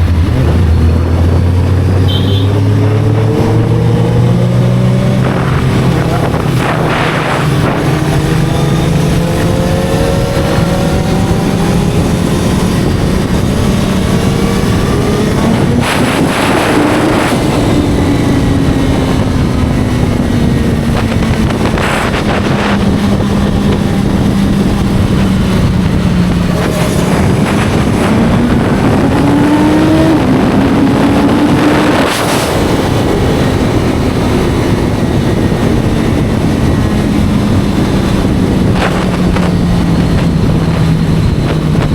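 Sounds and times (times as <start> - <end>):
heavy wind rush: 0.0 - 41.9
motorcycle engine revving: 0.0 - 41.9.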